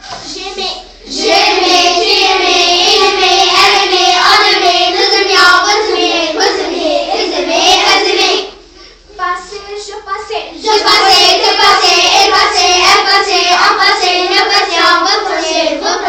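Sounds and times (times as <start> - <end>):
child singing: 0.3 - 8.6, 10.6 - 16.0.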